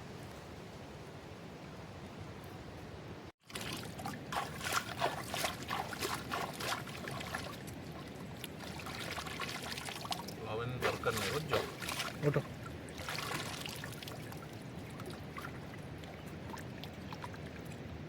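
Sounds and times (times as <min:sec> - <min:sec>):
water splashing and trickling: 0:03.4 - 0:18.0.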